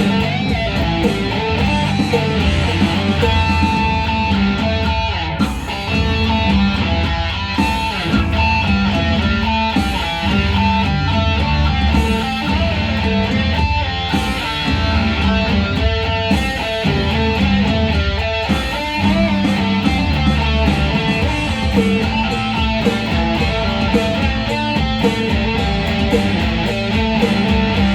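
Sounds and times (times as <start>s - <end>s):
guitar-led background music: 0.0s - 27.9s.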